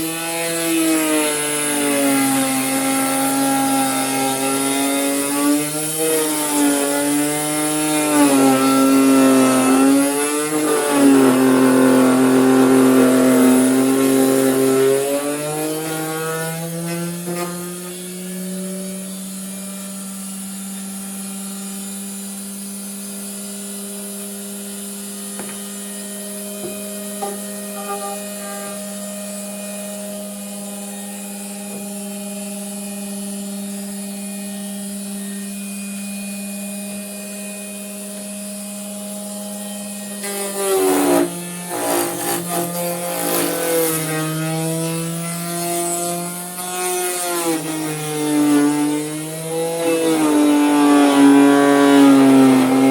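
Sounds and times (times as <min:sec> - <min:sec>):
router motor running: 0:00.0 - 0:35.3, 0:38.2 - 0:52.9.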